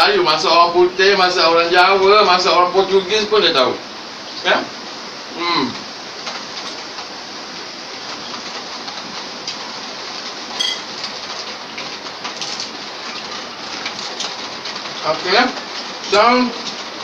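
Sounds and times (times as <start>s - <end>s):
steady rain-like hiss: 0.0s - 17.0s.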